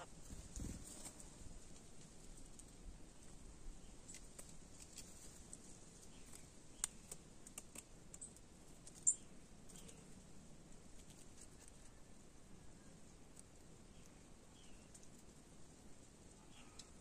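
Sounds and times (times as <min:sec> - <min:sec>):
birds pecking at corn: 0:00.0 - 0:17.0
birds stepping in dry leaves: 0:00.0 - 0:17.0.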